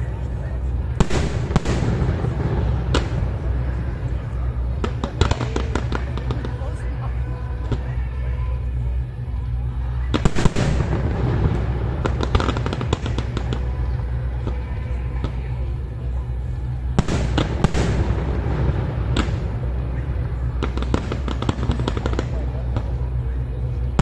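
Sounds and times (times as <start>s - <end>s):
fireworks bangs: 0.0s - 8.2s, 10.0s - 24.0s
fireworks crackling: 0.0s - 24.0s
steady low rumble: 0.0s - 24.0s.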